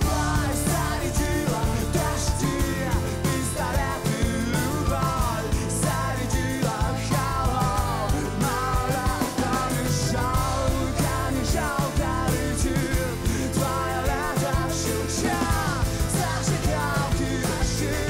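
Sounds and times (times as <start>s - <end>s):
acoustic rock band: 0.0s - 18.0s
man singing: 0.0s - 18.0s.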